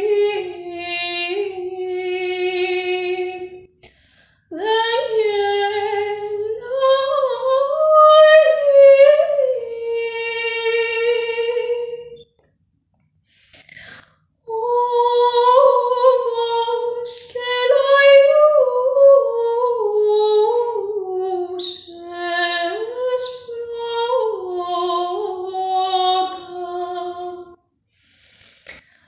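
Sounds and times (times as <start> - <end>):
woman singing unaccompanied: 0.0 - 3.8, 4.5 - 12.2, 14.5 - 27.6.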